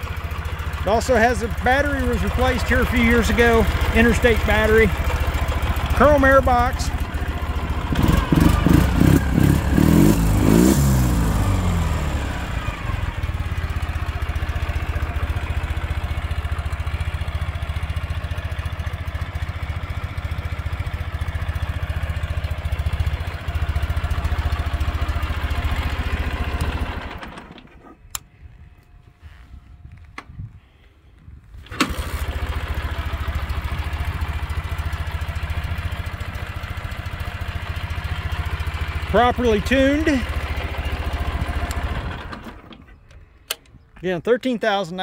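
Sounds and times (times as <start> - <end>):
motorcycle engine revving and idling: 0.0 - 28.1, 31.6 - 43.4.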